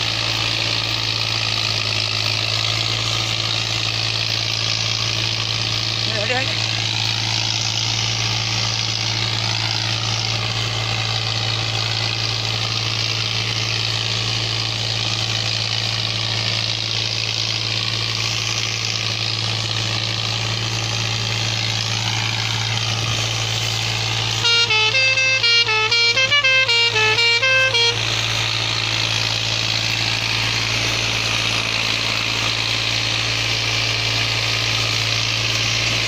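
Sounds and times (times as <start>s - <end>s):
tractor diesel engine drone: 0.0s - 36.0s.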